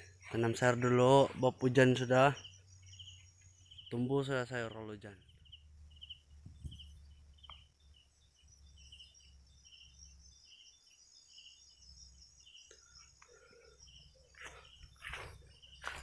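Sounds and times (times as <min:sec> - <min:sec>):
insect trill: 0:00.0 - 0:16.0.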